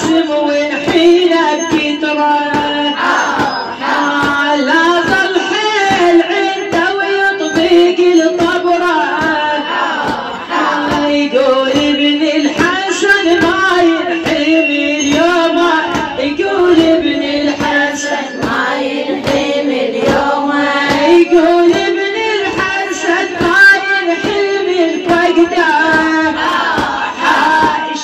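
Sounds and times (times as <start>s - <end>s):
rhythmic chest-beating: 0.0s - 28.0s
woman singing a lament: 0.0s - 28.0s.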